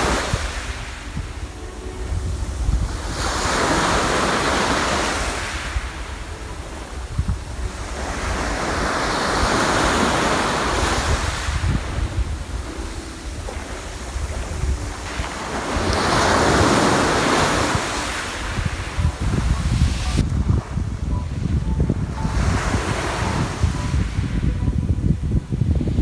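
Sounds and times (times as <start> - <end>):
sea waves washing onto shore: 0.0 - 26.0
wind buffeting microphone: 0.0 - 26.0.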